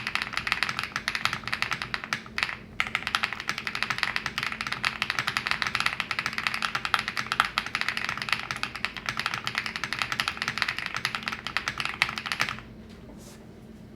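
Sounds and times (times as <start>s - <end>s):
mechanical keyboard typing: 0.0s - 12.7s.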